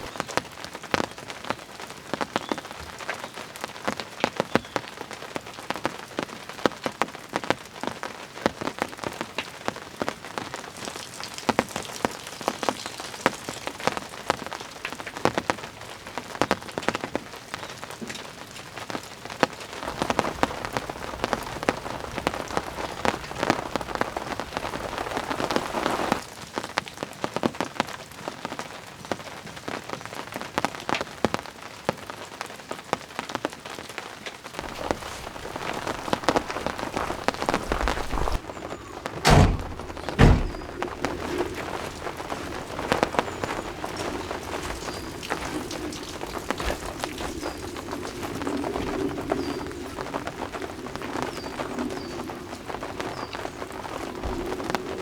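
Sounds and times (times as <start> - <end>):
dense rushing rain: 0.0 - 55.0
rain drops ticking on surface: 0.0 - 55.0.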